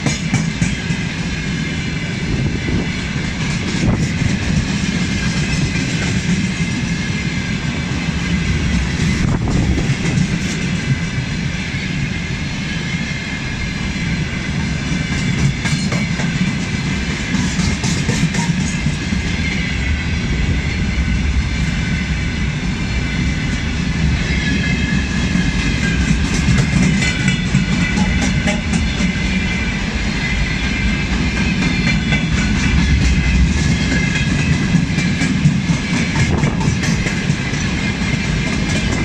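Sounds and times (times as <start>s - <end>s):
steel wheels rumbling on rail: 0.0s - 39.0s.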